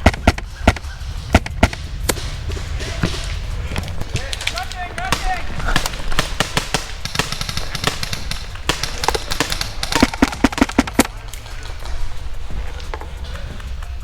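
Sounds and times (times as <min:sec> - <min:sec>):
airsoft gunshots: 0:00.0 - 0:13.5.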